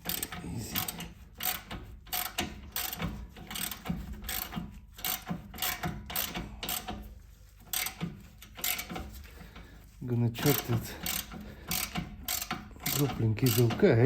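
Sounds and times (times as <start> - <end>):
ratchet wrench clicking: 0.0 - 7.1, 7.7 - 9.3, 10.4 - 14.0.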